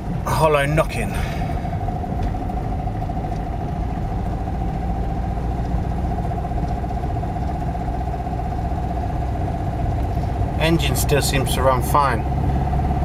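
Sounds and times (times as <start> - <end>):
car engine running: 0.0 - 13.0
steady high whine: 0.0 - 13.0
metallic engine knocking: 1.3 - 13.0.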